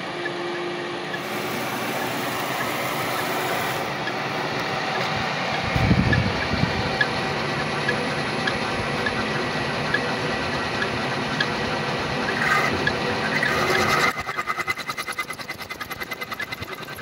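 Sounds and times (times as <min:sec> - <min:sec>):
mill cutting steel: 0:00.0 - 0:17.0.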